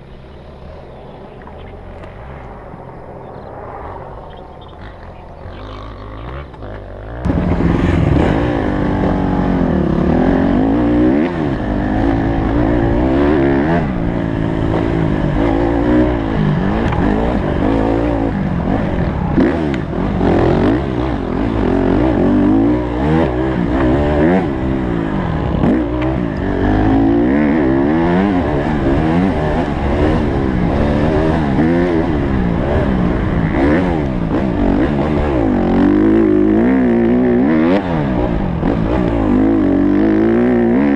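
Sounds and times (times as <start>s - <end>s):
motocross bike engine revving: 4.6s - 40.9s.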